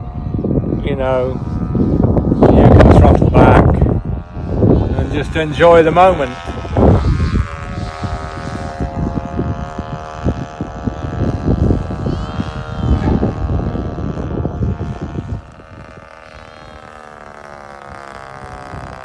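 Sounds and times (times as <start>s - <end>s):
model aircraft engine running: 0.0s - 19.0s
wind buffeting microphone: 0.0s - 19.0s.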